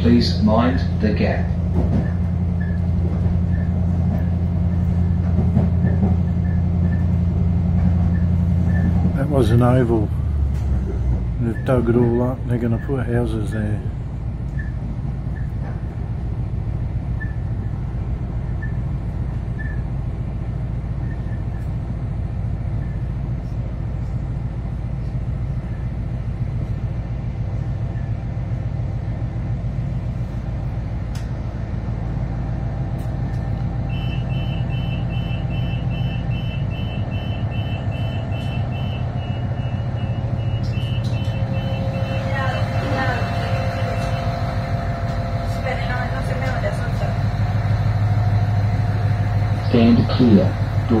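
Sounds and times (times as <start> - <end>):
diesel train drone: 0.0 - 51.0.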